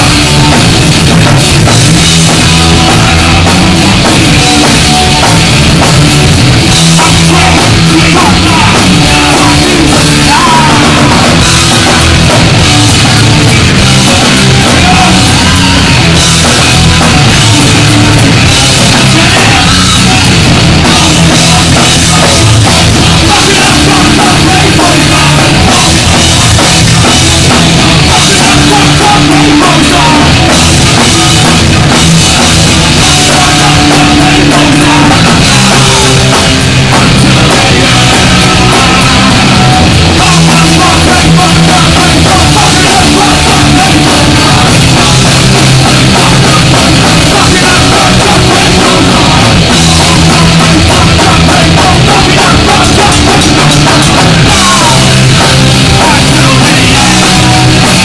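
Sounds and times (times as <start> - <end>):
bass guitar: 0.0 - 58.0
distorted electric guitar: 0.0 - 58.0
pounding drum kit: 0.0 - 58.0.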